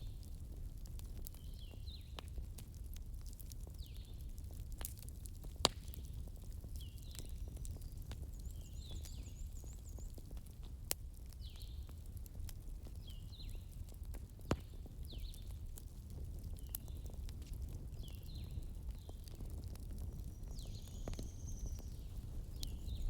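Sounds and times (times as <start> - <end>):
fire crackling and popping: 0.0 - 23.0
low fire rumble: 0.0 - 23.0.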